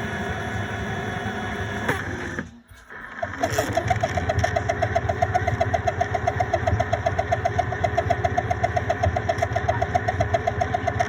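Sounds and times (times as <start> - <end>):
stepper motor whines: 0.0 - 11.0.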